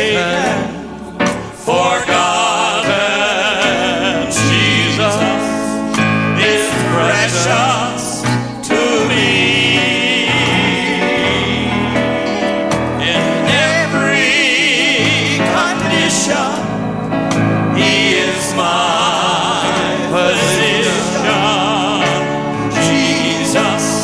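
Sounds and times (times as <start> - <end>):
gospel singing: 0.0 - 24.0
instrumental accompaniment with bass: 0.0 - 24.0.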